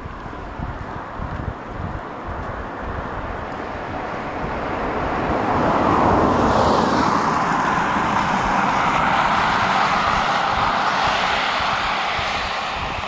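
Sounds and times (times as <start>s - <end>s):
passing vehicle engine: 0.0s - 13.0s.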